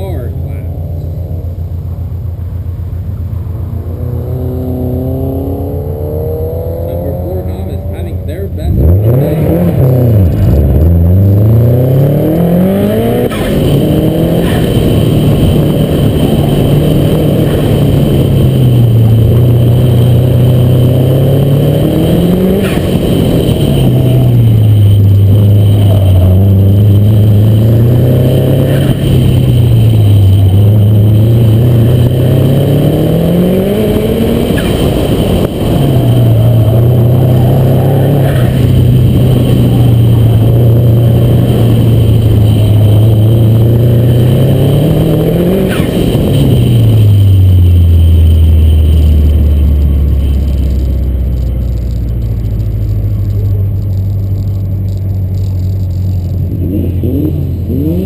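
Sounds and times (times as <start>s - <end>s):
turbocharged car engine accelerating: 0.0s - 58.0s.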